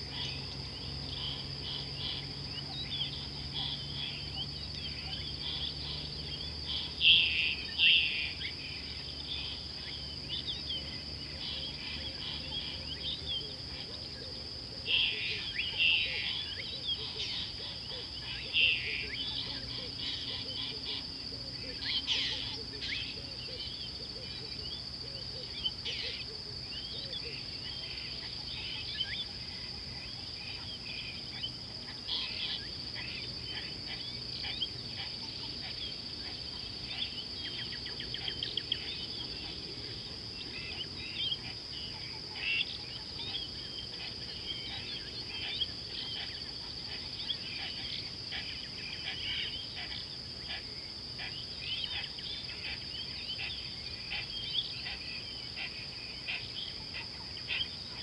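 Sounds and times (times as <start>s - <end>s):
birds chirping: 0.0s - 58.0s
high insect trill: 0.0s - 58.0s.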